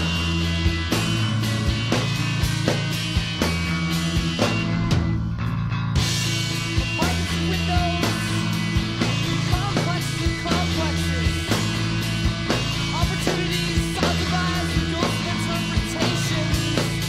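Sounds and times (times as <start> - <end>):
bass guitar: 0.0 - 17.0
drum kit steady beat: 0.0 - 17.0
electric guitar: 0.0 - 17.0.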